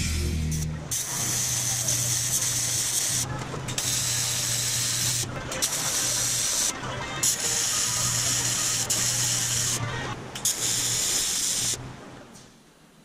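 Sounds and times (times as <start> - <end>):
welding arc hiss and hum: 0.0 - 12.6.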